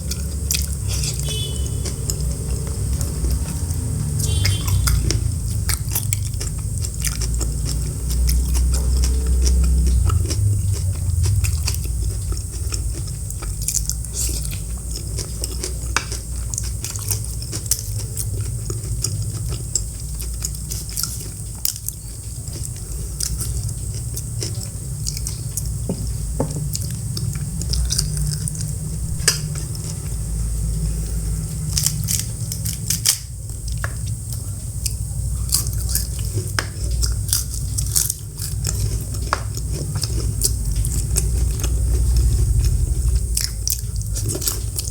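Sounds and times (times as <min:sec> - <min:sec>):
chewing and biting food: 0:00.0 - 0:44.9
steady low hum: 0:00.0 - 0:44.9.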